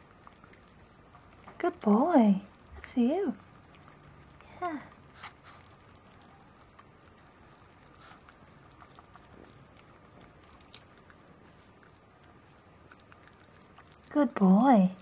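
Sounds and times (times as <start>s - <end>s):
dog licking and smacking: 0.0s - 15.0s.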